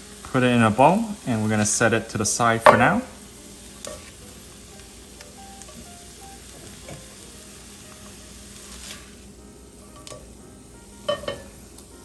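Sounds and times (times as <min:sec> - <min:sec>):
faint background music: 0:00.0 - 0:12.0
mushrooms sizzling in a pan: 0:00.0 - 0:12.0.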